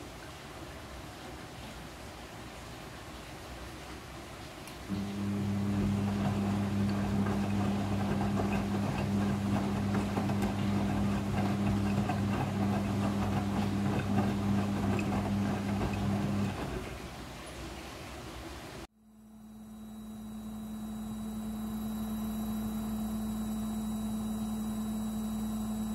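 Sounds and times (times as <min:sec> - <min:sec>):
washing machine pump hum: 0:04.8 - 0:25.9.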